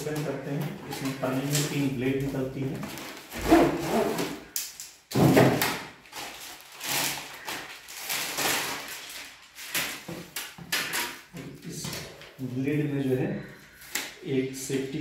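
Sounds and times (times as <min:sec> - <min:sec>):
cardboard and plastic rustling: 0:00.0 - 0:12.6.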